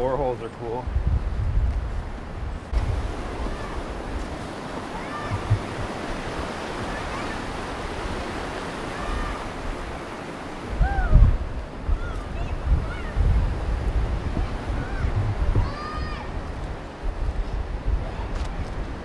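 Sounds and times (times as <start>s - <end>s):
wind buffeting microphone: 0.0s - 19.0s
white-water rapids rushing: 2.8s - 19.0s.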